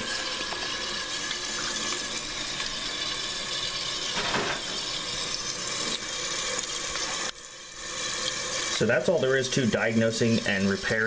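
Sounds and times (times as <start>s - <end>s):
toilet fill valve hissing: 0.0s - 11.0s.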